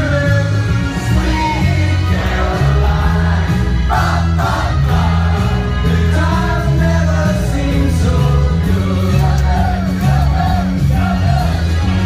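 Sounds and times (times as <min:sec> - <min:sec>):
heavy bass line: 0:00.0 - 0:12.0
loud music with singing: 0:00.0 - 0:12.0.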